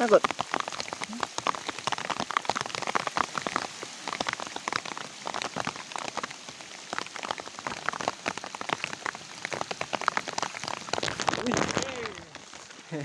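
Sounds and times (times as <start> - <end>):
rain hiss: 0.0 - 13.0
raindrops ticking on a surface: 0.0 - 13.0.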